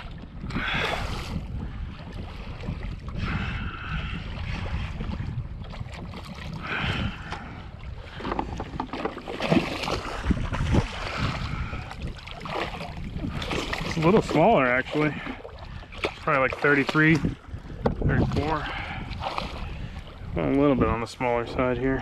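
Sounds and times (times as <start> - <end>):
lapping water: 0.0 - 20.8
wind buffeting microphone: 0.0 - 22.0.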